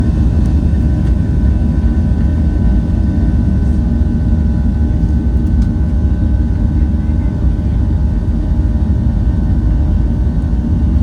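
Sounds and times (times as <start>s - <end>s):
faint engine whine: 0.0s - 11.0s
jet engines rumbling: 0.0s - 11.0s.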